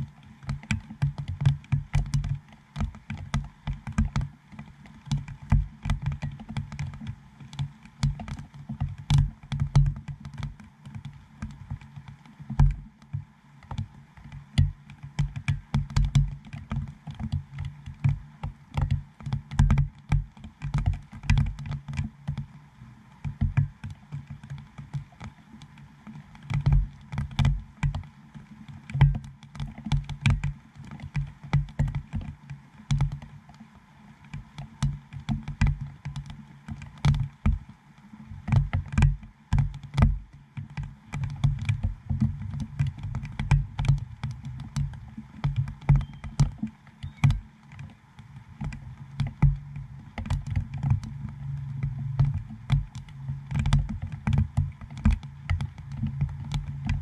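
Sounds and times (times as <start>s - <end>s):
raindrops tapping on camera: 0.0s - 57.0s.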